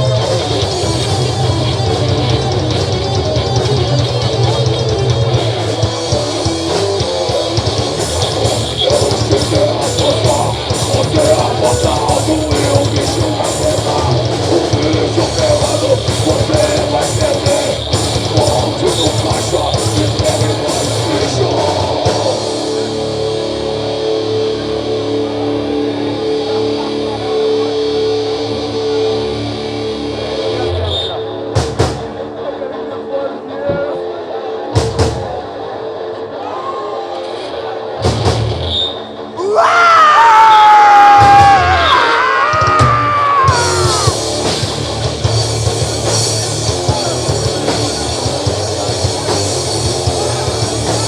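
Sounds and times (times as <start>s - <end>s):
rock band playing: 0.0s - 51.0s.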